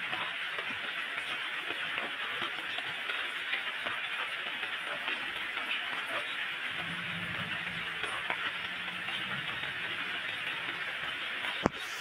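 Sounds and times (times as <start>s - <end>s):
rain on tile roofs: 0.0s - 12.0s.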